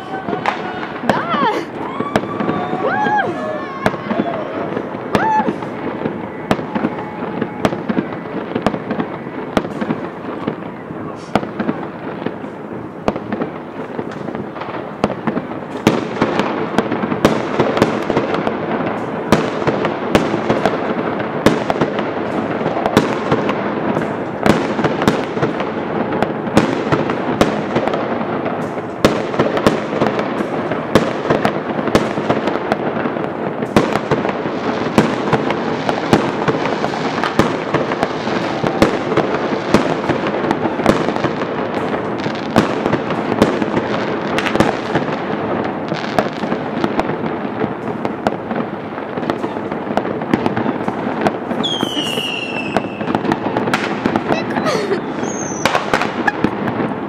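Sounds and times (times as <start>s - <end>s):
distant fireworks bangs and crackling: 0.0s - 57.0s
fireworks bursting with sharp bangs: 0.0s - 57.0s.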